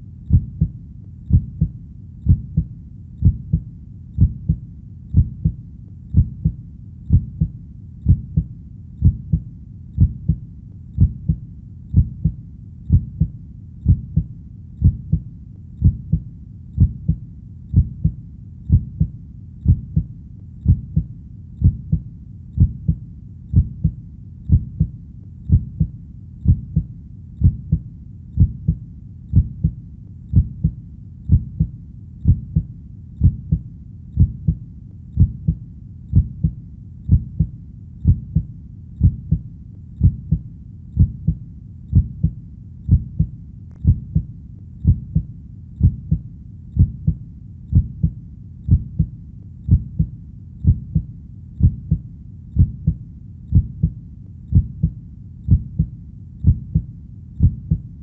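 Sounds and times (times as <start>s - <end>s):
heartbeat thumping: 0.0s - 10.4s, 11.0s - 58.0s.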